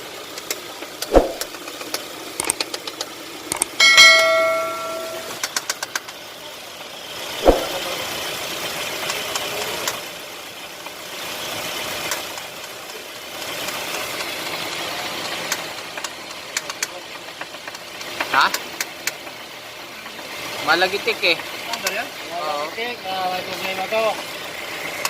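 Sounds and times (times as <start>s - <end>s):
car engine running: 0.0s - 25.0s
engine metallic knocking and ticking: 0.0s - 25.0s.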